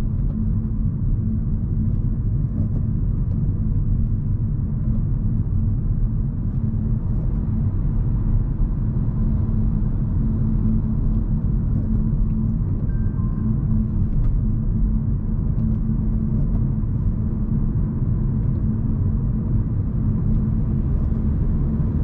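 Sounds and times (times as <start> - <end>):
road and tyre noise inside car: 0.0 - 22.0.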